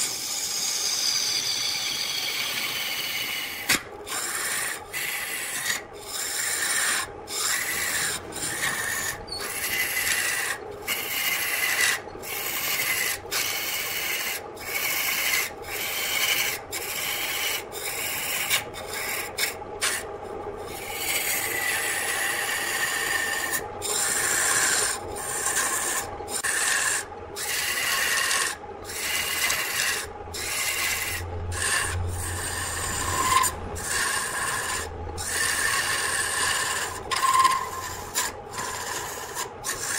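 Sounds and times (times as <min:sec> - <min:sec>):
lathe motor hum: 0:00.0 - 0:39.9
lathe tool scraping wood: 0:00.0 - 0:39.9.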